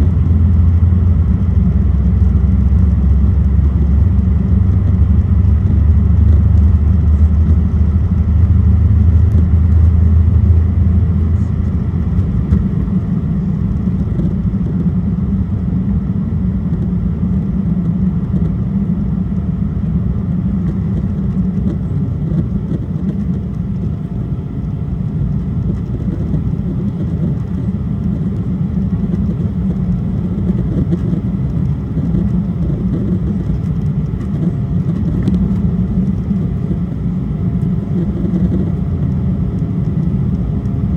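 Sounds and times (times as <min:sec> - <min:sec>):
deep rumble: 0:00.0 - 0:40.9
jet engine cabin rumble: 0:00.0 - 0:40.9.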